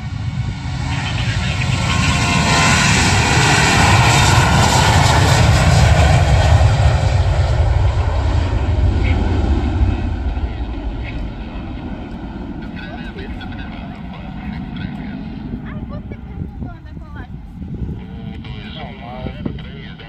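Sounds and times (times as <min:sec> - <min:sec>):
airliner taking off: 0:00.0 - 0:20.0.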